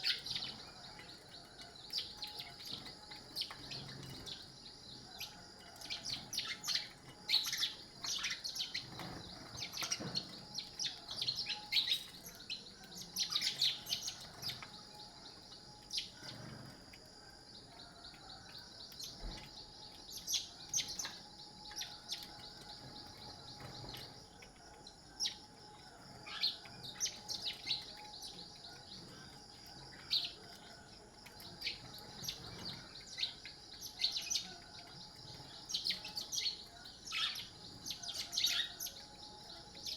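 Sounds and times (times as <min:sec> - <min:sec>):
birds chirping: 0:00.0 - 0:17.0, 0:17.8 - 0:39.9.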